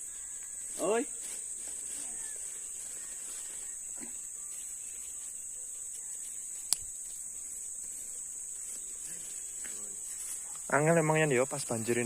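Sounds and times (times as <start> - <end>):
crickets chirping chorus: 0.0 - 12.0.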